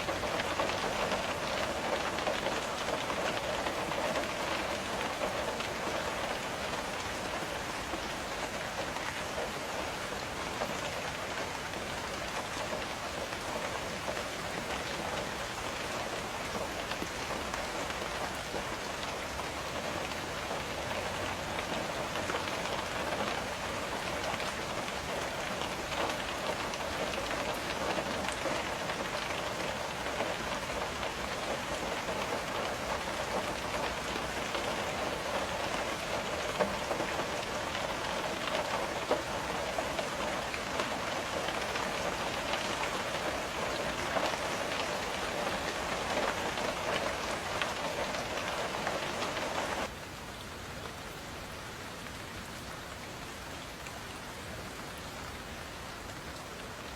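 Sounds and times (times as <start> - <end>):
rain pattering on window glass: 0.0 - 50.0.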